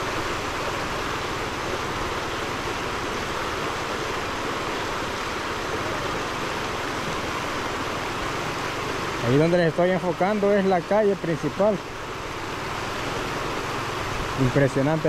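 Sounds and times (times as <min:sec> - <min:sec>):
floodwater rushing around rocks: 0:00.0 - 0:15.0.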